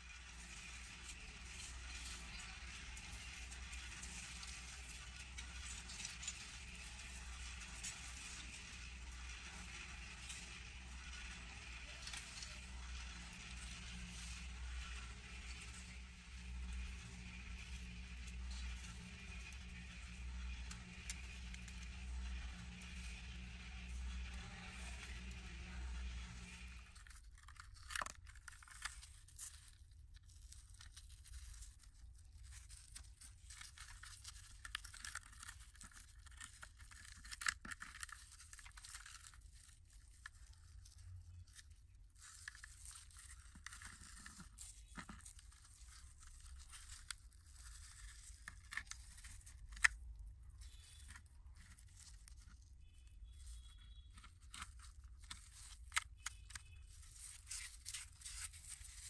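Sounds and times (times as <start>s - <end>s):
rubber gloves rustling on metal: 0.0s - 59.0s.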